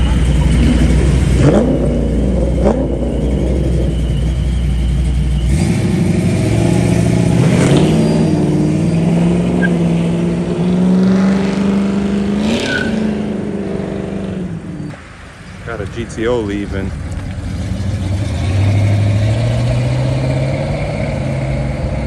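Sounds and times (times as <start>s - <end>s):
car accelerating away: 0.0s - 14.9s, 16.9s - 22.0s
car engines rumbling: 0.0s - 22.0s.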